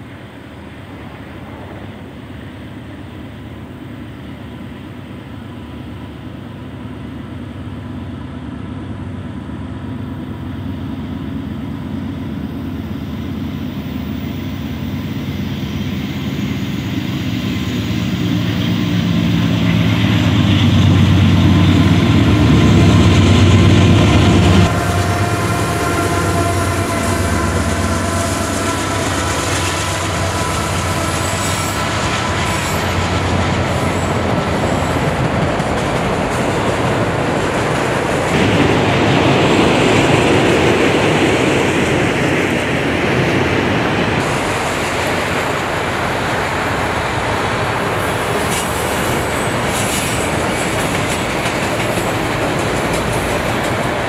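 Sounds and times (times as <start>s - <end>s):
diesel locomotive engine rumbling: 0.0s - 54.0s
high tones from train wheels: 0.0s - 54.0s
train cars rolling on rails: 0.0s - 54.0s.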